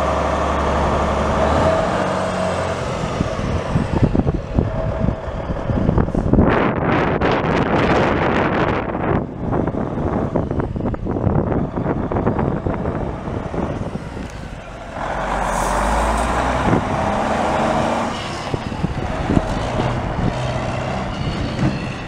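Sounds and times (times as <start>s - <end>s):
diesel truck driving by: 0.0s - 22.0s.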